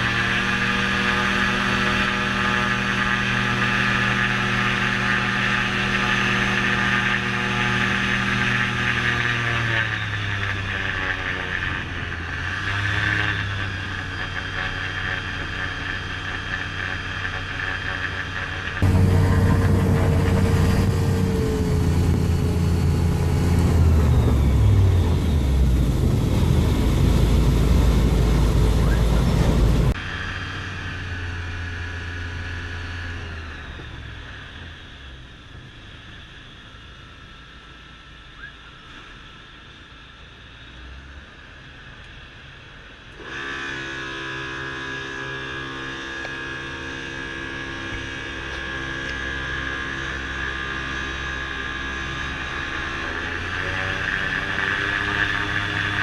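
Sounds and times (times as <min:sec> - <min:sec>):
engine heard inside cabin: 0:00.0 - 0:56.0
seaplane engine and propeller: 0:00.0 - 0:56.0
wind: 0:00.0 - 0:56.0.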